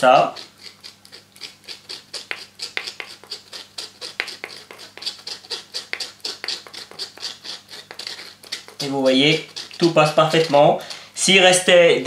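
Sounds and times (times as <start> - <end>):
wooden spoon scraping through sieve: 0.0 - 11.7.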